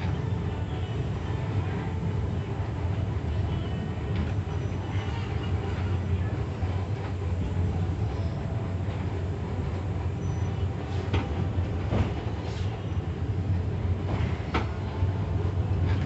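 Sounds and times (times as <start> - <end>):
funicular car rumbling: 0.0 - 16.0.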